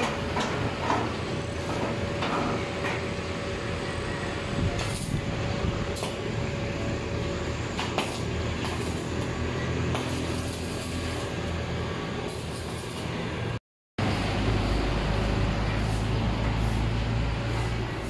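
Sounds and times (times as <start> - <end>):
welding arc crackling and hissing: 0.0 - 18.0.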